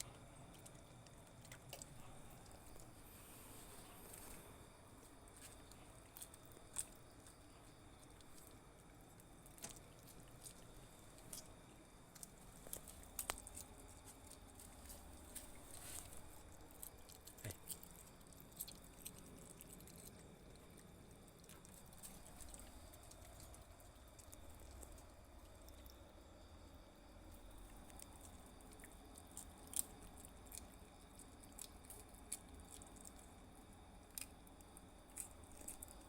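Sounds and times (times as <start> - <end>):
pet crunching food: 0.0 - 26.2, 27.3 - 36.0.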